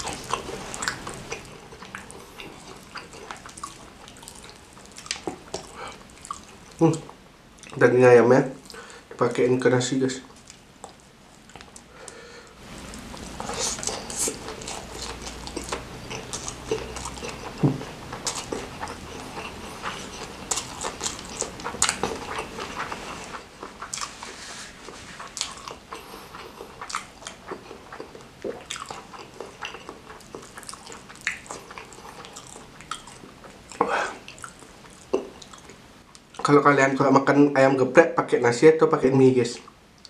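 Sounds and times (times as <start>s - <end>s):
mouth chewing food: 0.0s - 7.8s, 10.3s - 36.6s.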